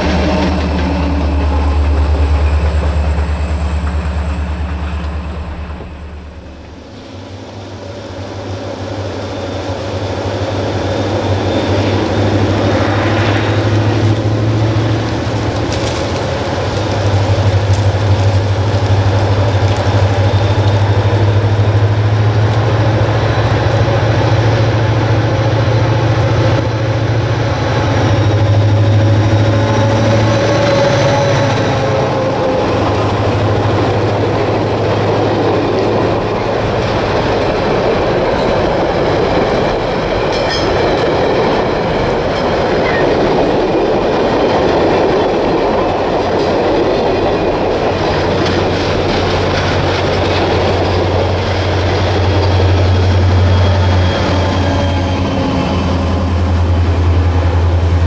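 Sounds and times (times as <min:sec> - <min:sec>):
train wheels on rails clacking: 0:00.0 - 0:07.1, 0:08.3 - 0:58.0
diesel locomotive droning: 0:00.0 - 0:58.0.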